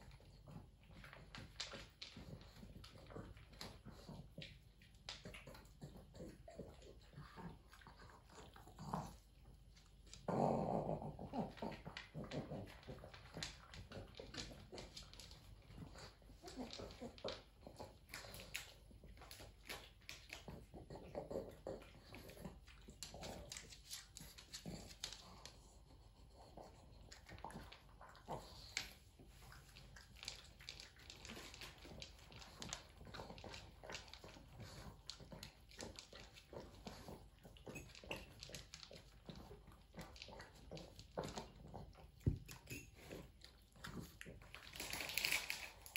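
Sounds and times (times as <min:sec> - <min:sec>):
dog eating from a bowl: 0:00.0 - 0:45.9.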